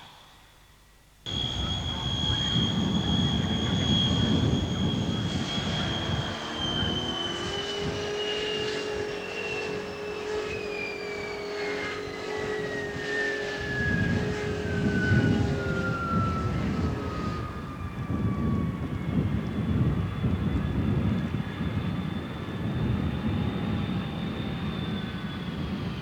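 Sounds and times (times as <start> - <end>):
jet engine rumble and whine: 0.0 - 26.0.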